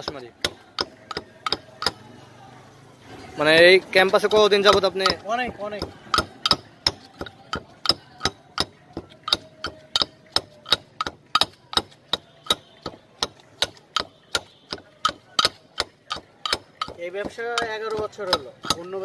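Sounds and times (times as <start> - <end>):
pestle pounding in stone mortar: 0.0 - 2.0, 3.5 - 19.0.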